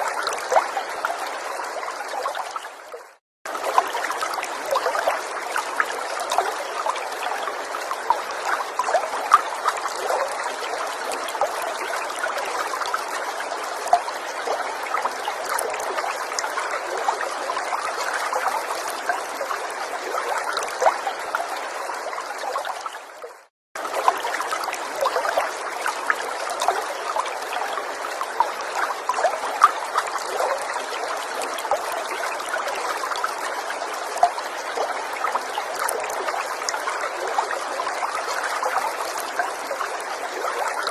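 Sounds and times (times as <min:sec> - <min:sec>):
small water splashes: 0:00.0 - 0:40.9
stream trickling: 0:00.0 - 0:40.9.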